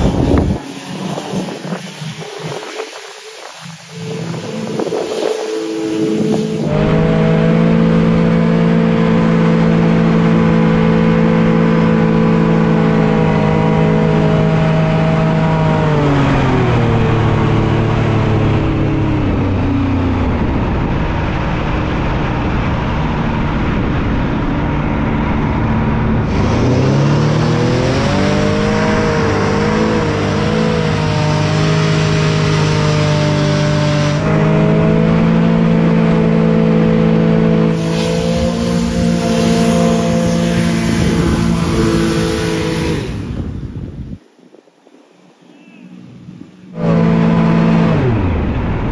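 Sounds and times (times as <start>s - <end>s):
hovercraft engine and fan: 0.0s - 48.9s
rushing air: 0.0s - 48.9s.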